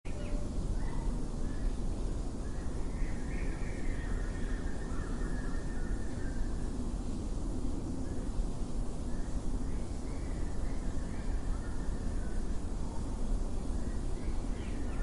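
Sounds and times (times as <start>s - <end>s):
steady low rumble: 0.1s - 15.0s.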